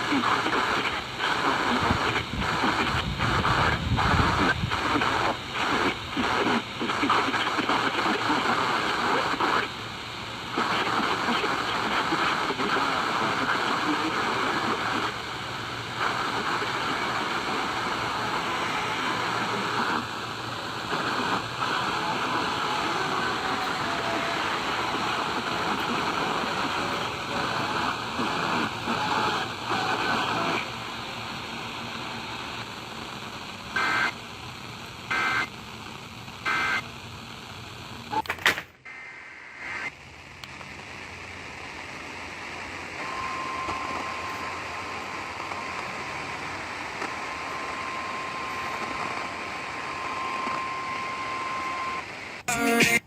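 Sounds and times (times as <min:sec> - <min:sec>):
radio static hiss: 0:00.0 - 0:53.0.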